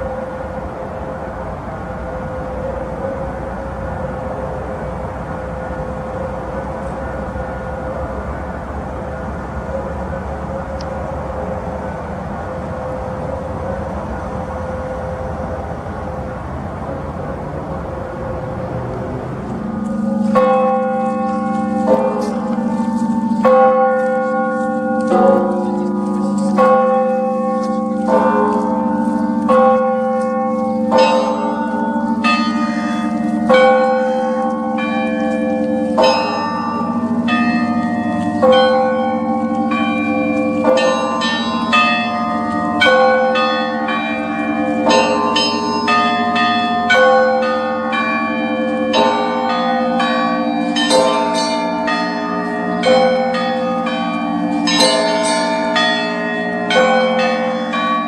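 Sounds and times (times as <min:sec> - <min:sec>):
large bell humming: 0:00.0 - 0:58.0
small church bells ringing: 0:00.0 - 0:58.0.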